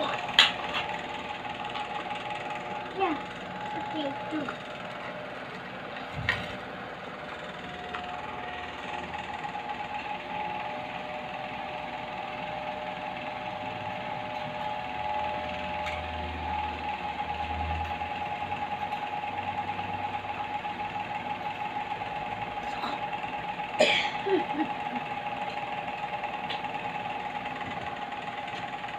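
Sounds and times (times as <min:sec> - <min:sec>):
small motor humming: 0:00.0 - 0:28.9.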